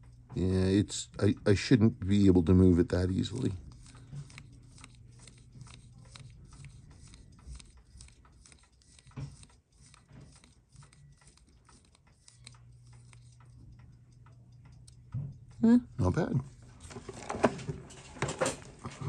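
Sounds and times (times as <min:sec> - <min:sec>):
watch movement ticking: 0:00.0 - 0:16.9.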